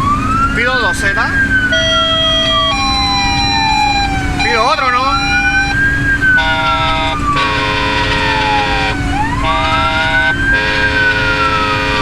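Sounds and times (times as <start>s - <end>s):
fire engine siren wailing: 0.0s - 12.0s
fire engine horn blasts: 1.5s - 12.0s.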